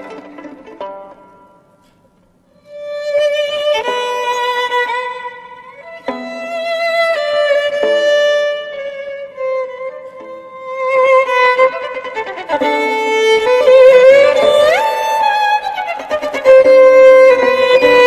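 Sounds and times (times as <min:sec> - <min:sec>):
violin playing slow melody: 0:02.6 - 0:18.0.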